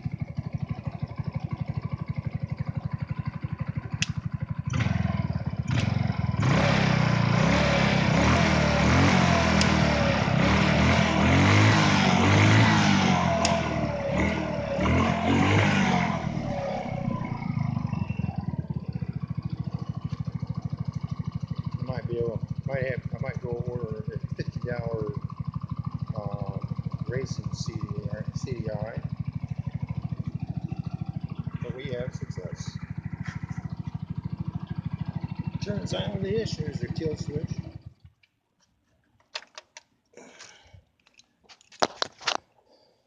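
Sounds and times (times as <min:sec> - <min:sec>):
go-kart engine idling and revving: 0:00.0 - 0:38.2.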